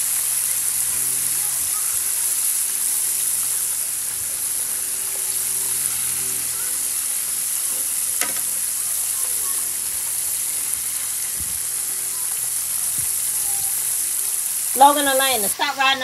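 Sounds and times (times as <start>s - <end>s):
oil sizzling in skillet: 0.0s - 16.0s.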